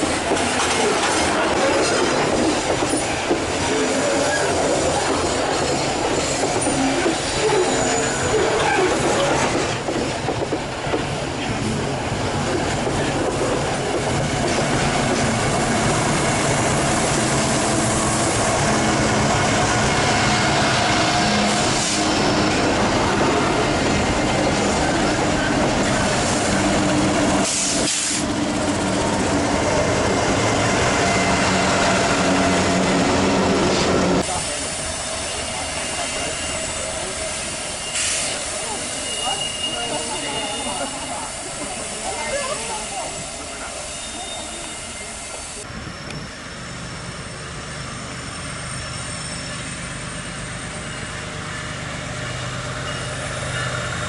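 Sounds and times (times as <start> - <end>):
diesel locomotive hum: 0.0 - 54.0
train wheels on rails: 0.0 - 54.0.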